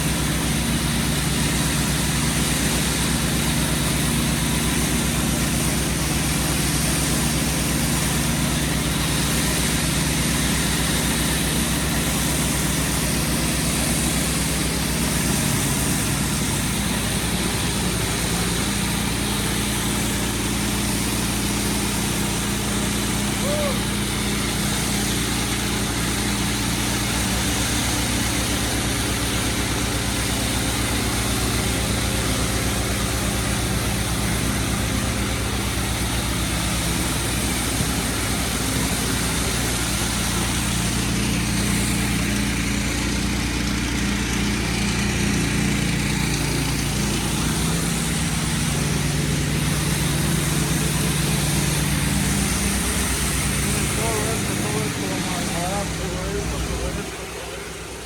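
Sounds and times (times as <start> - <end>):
high-pressure water spray hiss: 0.0 - 58.0
pressure washer engine running: 0.0 - 58.0.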